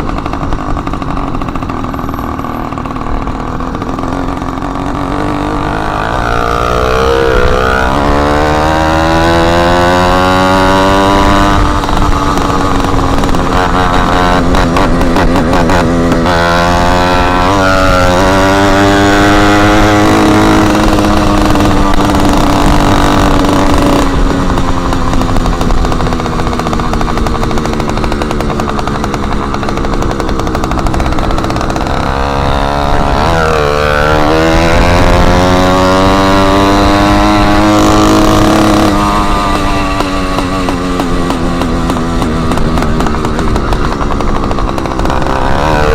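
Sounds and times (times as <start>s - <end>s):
small engine revving loud: 0.2s - 45.9s.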